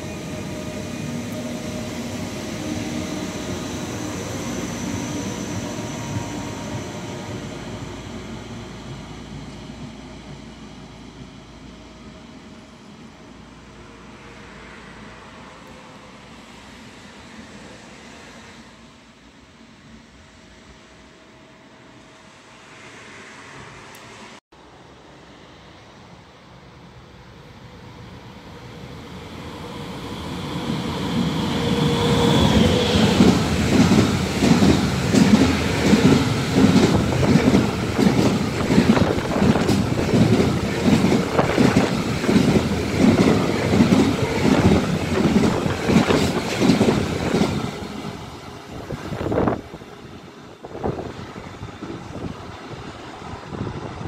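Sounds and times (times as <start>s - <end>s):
train whine: 0.0s - 54.0s.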